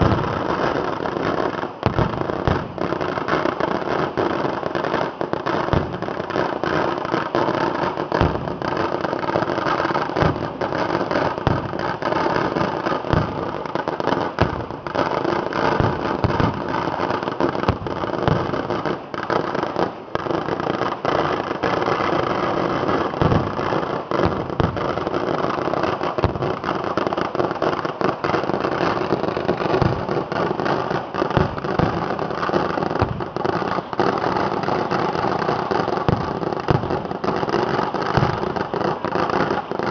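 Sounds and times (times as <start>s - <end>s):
firecracker bangs and crackling: 0.0s - 39.9s.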